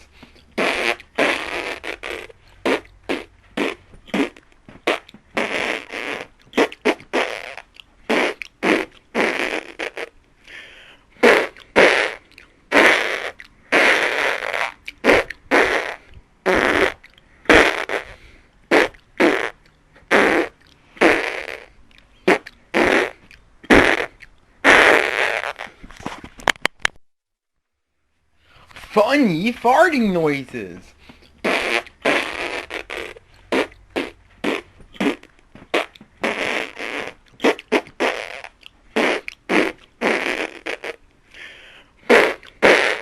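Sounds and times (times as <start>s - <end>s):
fart noises: 0.0s - 10.2s, 11.2s - 26.6s, 31.1s - 41.0s, 42.0s - 43.0s.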